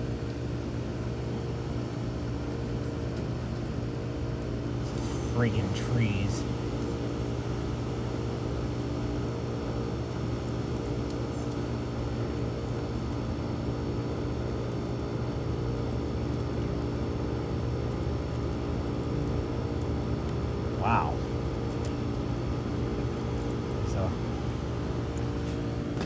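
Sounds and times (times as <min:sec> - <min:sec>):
air conditioner compressor hum: 0:00.0 - 0:26.0.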